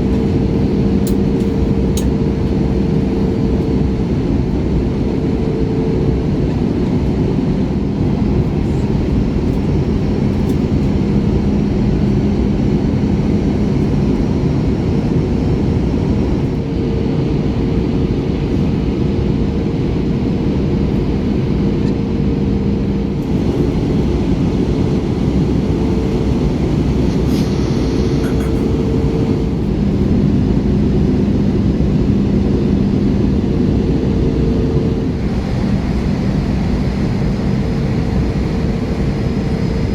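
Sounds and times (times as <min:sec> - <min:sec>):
engine and airflow rush: 0:00.0 - 0:39.9
low hum: 0:00.0 - 0:39.9.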